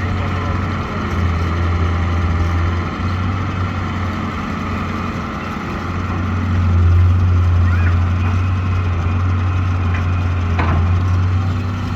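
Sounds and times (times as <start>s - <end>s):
diesel engine humming: 0.0s - 11.9s.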